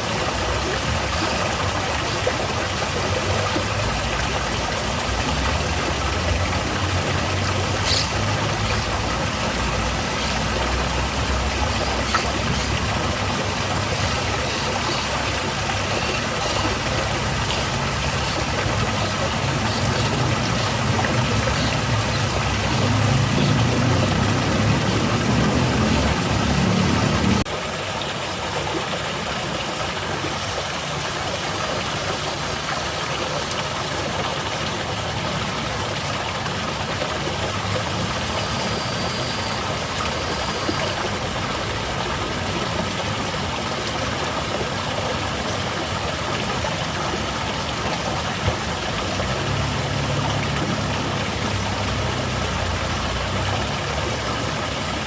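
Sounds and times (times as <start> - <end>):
water falling and splashing: 0.0 - 55.0.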